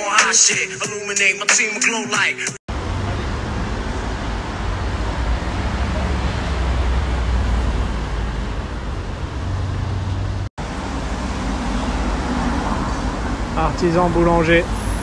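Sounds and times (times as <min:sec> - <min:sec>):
traffic rumble and hiss: 0:02.7 - 0:15.0.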